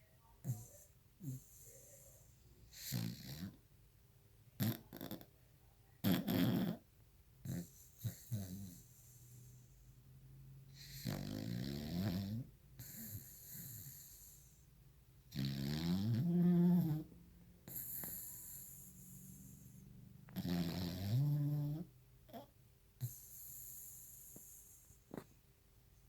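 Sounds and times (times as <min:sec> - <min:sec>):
dog snoring: 0:00.4 - 0:03.6, 0:04.6 - 0:05.3, 0:06.0 - 0:10.0, 0:10.7 - 0:14.7, 0:15.3 - 0:25.4.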